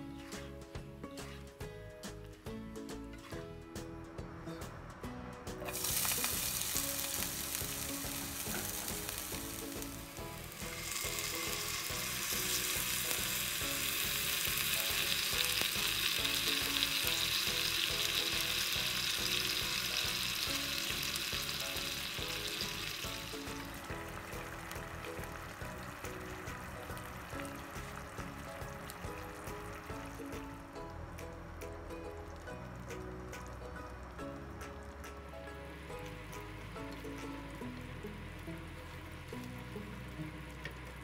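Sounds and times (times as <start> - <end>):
hot oil sizzling in a wok: 5.6 - 41.0.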